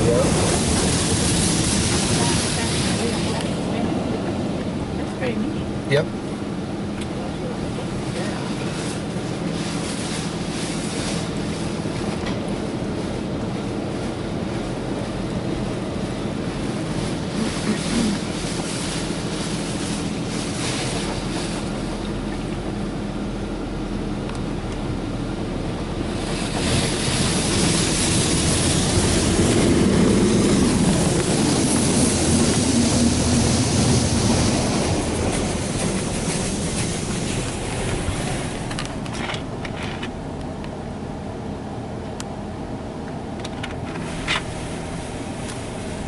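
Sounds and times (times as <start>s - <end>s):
water spraying onto car: 0.0s - 5.5s, 6.6s - 23.6s, 25.7s - 39.6s, 43.8s - 46.0s.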